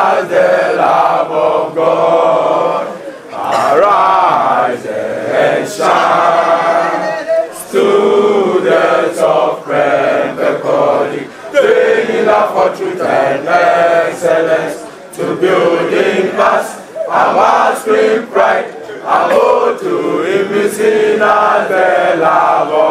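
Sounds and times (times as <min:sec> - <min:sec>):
men chanting together: 0:00.0 - 0:22.9.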